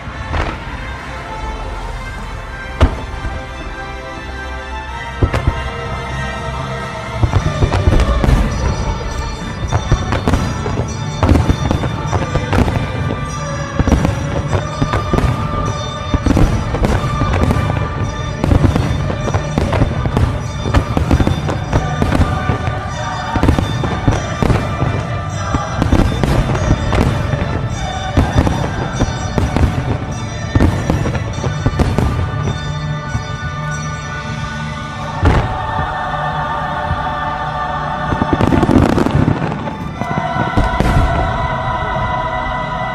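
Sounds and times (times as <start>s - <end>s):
fireworks booming: 0.0s - 34.3s, 34.9s - 42.9s
music playing: 0.0s - 42.9s.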